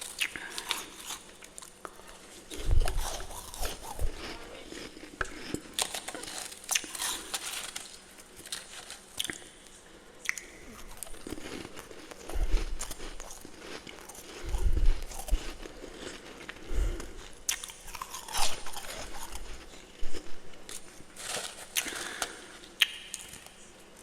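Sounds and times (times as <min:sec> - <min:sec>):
chewing crunchy frost: 0:00.0 - 0:23.6.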